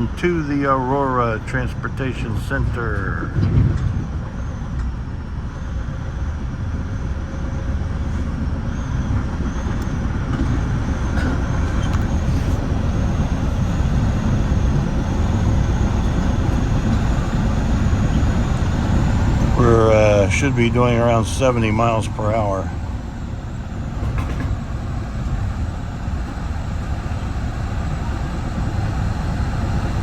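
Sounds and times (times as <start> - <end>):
train car rumbling on rails: 0.0 - 30.0.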